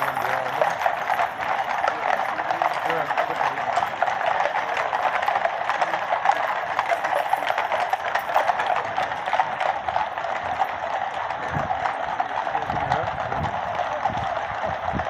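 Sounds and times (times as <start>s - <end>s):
horse hooves clip-clopping on road: 0.0s - 15.0s.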